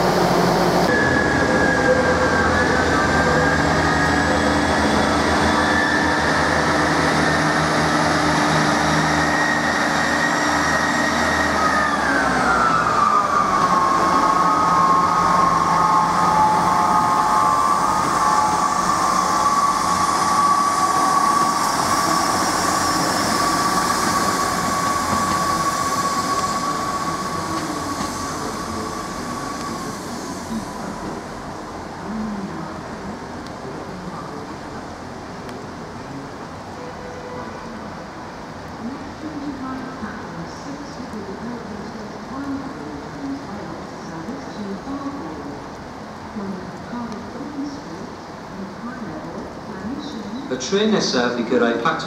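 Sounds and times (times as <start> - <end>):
train engine whine: 0.0 - 52.0.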